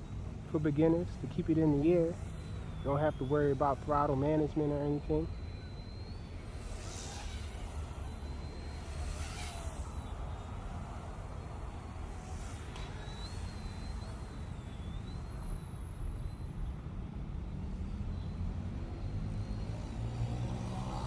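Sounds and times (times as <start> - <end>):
toy helicopter rotor whine: 0.0 - 21.0.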